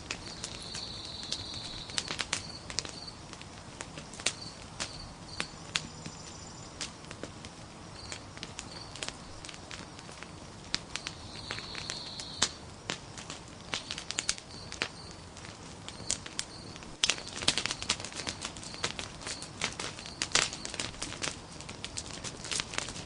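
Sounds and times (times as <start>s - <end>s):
log fire crackling: 0.0s - 23.0s.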